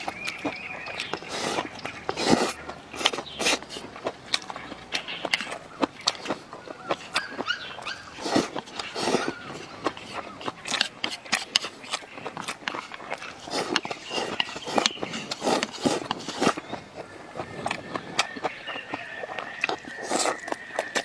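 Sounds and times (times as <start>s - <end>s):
chewing and lip-smacking: 0.0s - 21.0s.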